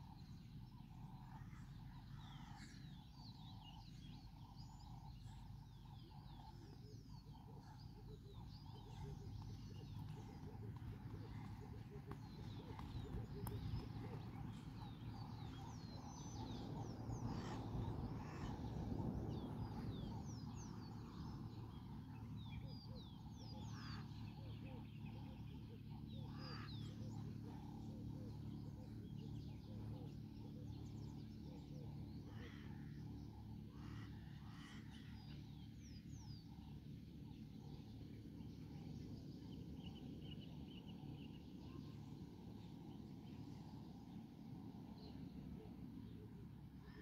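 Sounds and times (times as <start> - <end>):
birds chirping: 0.0 - 47.0
low background rumble: 0.0 - 47.0.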